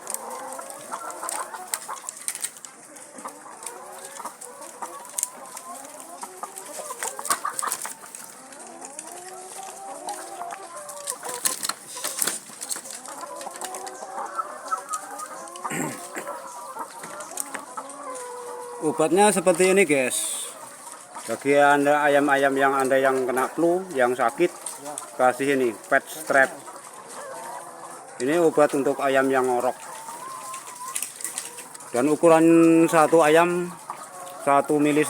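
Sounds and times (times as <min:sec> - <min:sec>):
hens clucking: 0:00.0 - 0:35.0.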